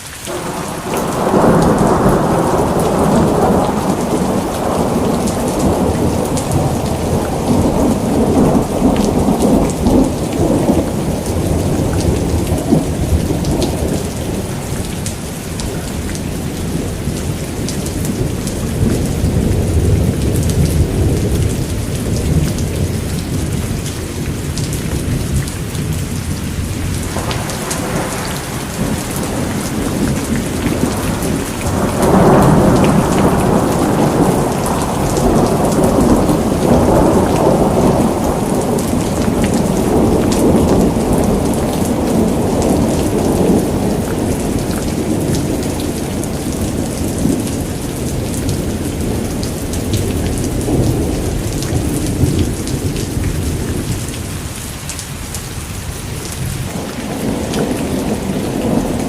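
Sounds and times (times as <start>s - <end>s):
heavy rain: 0.0s - 59.0s
rolling thunder: 0.3s - 59.0s.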